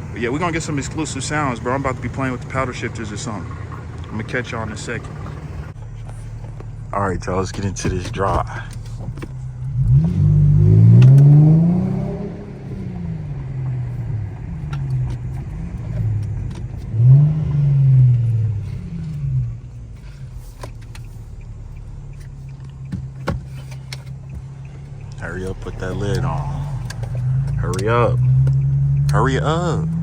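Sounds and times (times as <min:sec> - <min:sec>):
car exhaust under acceleration: 0:00.0 - 0:30.0.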